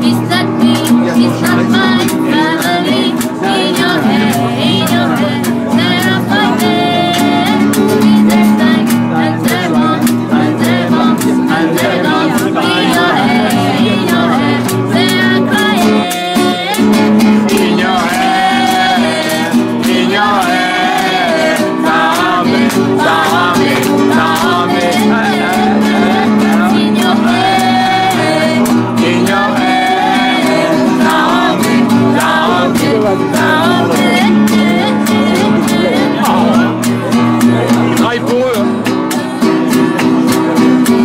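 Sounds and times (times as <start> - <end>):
acoustic guitar strumming: 0.0 - 41.0
person singing: 0.0 - 41.0.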